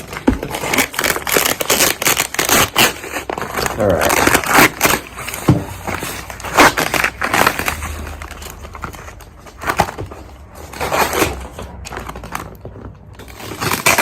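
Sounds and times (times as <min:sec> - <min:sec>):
cardboard and paper packaging crackling: 0:00.0 - 0:14.0.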